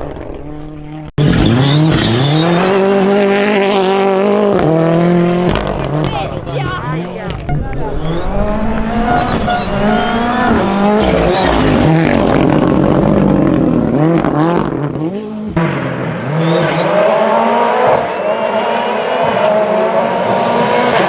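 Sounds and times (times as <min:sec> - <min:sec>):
rally car engines revving: 0:00.0 - 0:21.0.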